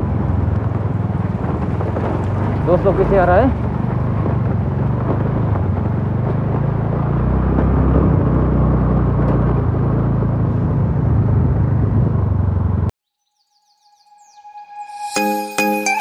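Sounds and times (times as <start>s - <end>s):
scooter engine running: 0.0s - 12.9s
tyre rumble on rough road: 0.0s - 12.9s.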